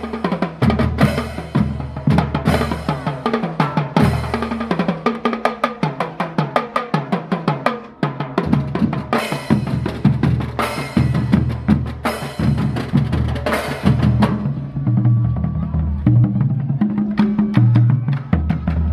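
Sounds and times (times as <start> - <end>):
marching drum band: 0.0 - 18.9.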